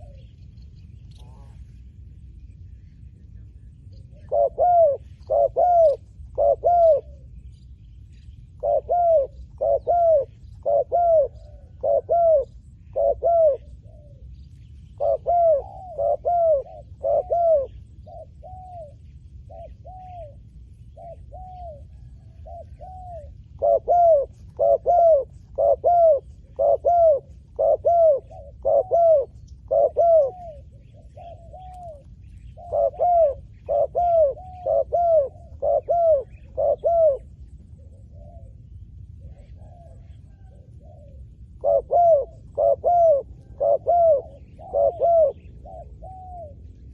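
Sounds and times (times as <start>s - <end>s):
dove cooing: 0.0s - 0.4s, 4.0s - 7.5s, 8.5s - 46.9s.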